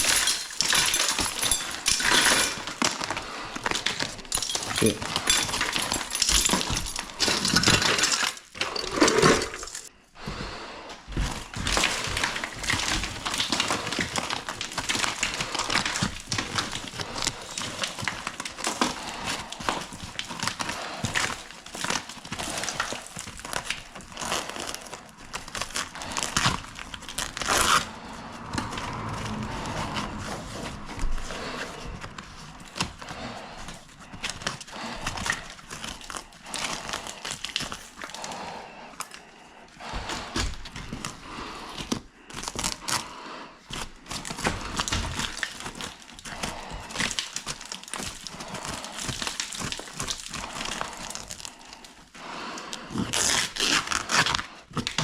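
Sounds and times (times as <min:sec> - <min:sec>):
crinkling and rustling of objects: 0:00.0 - 0:55.0.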